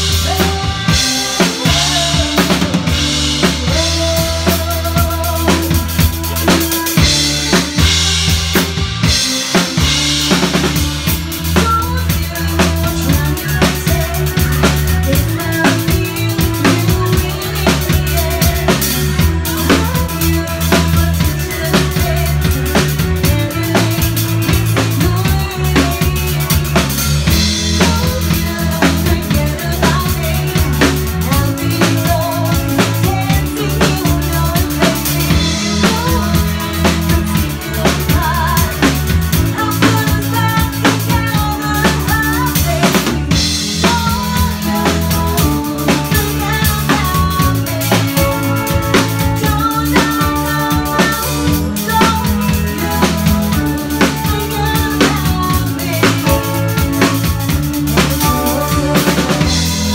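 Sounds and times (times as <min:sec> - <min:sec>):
drum kit beat: 0:00.0 - 0:59.9
live rock band playing: 0:00.0 - 0:59.9.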